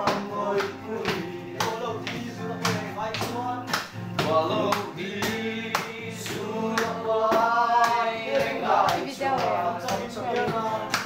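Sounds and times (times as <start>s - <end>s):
men singing together: 0.0s - 11.0s
strummed acoustic guitar: 0.0s - 11.0s.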